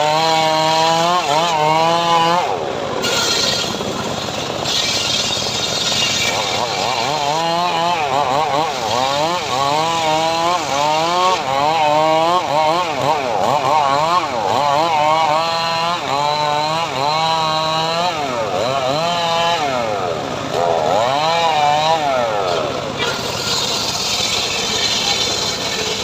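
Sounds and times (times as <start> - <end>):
sawmill engine sawing wood: 0.0 - 26.0.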